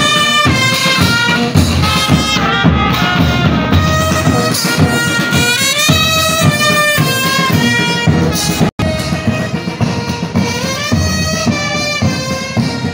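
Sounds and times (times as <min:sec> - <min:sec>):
bass drum beat: 0:00.0 - 0:12.9
brass band playing a march: 0:00.0 - 0:12.9.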